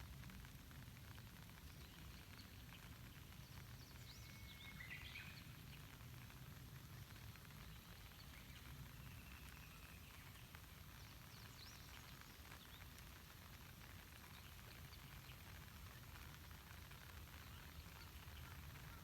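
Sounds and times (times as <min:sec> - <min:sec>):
light rain on water: 0:00.0 - 0:19.0.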